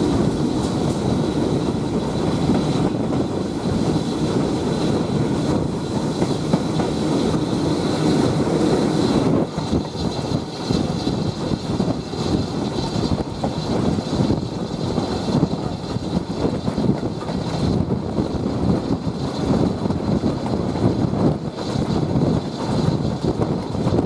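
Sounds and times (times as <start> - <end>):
train wheels rumbling on rail: 0.0 - 24.0
wind rush: 0.0 - 24.0.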